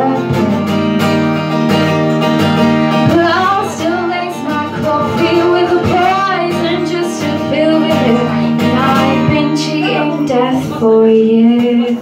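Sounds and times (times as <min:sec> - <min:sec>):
woman singing: 0:00.0 - 0:01.0, 0:02.9 - 0:12.0
strummed acoustic guitar: 0:00.0 - 0:12.0.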